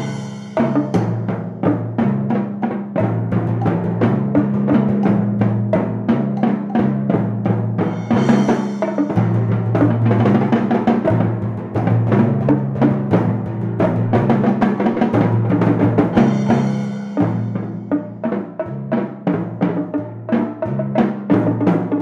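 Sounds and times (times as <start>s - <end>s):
snare drums and percussion: 0.0s - 22.0s
timpani notes: 0.0s - 22.0s.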